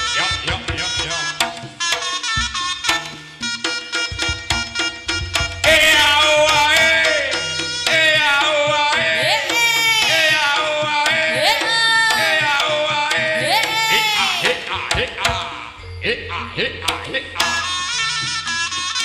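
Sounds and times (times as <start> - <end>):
hand drumming: 0.0 - 15.7, 16.8 - 17.9
reedy shawm melody: 0.0 - 19.0.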